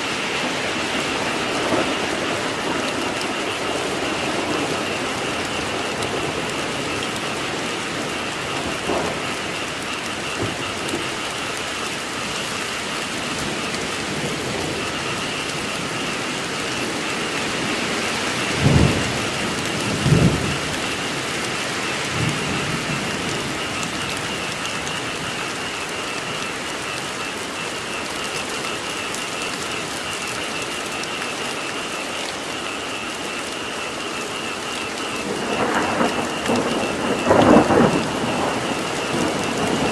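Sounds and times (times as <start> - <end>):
frog chorus: 0.0 - 39.9
steady rain falling: 0.0 - 39.9.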